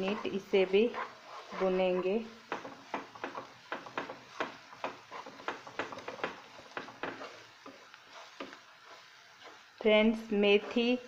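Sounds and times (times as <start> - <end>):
onions sauteing: 0.0 - 11.0
wooden spatula scraping a pan: 0.0 - 11.0.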